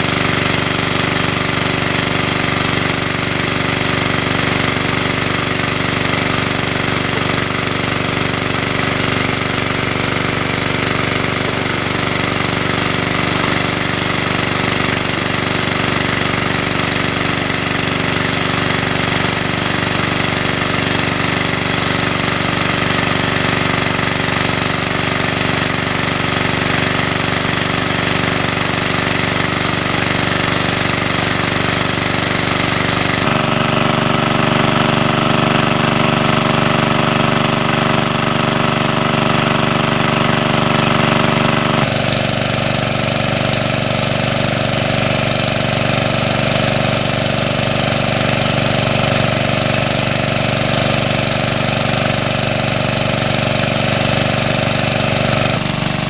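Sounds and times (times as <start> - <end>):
small water pump engine running: 0.0 - 56.0.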